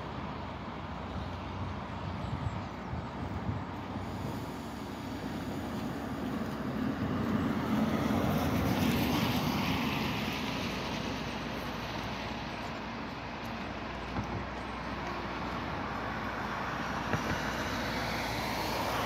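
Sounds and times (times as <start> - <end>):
diesel locomotive engine drone: 0.0 - 19.0
road traffic tyre noise: 0.0 - 19.0.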